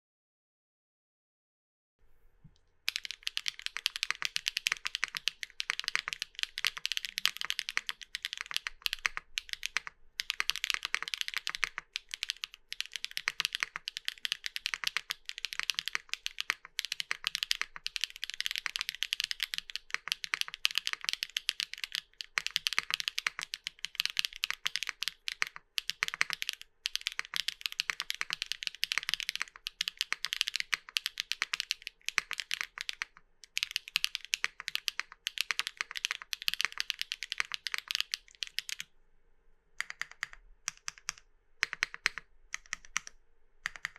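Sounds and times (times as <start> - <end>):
fast typing on mechanical keyboard: 2.9 - 38.9, 39.8 - 43.9.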